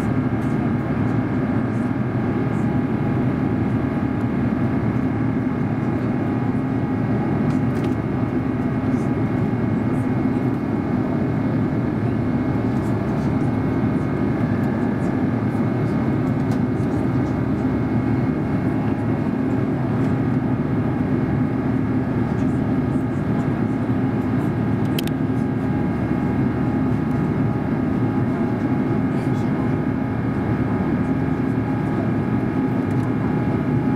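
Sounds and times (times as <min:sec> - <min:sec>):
jet engines droning: 0:00.0 - 0:33.9.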